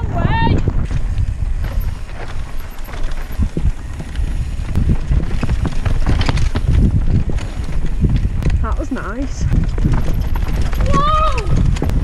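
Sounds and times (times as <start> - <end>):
bike rattling: 0.0 - 12.0
bike tyres rolling over rocks: 0.0 - 12.0
wind rumbling on microphone: 0.0 - 12.0.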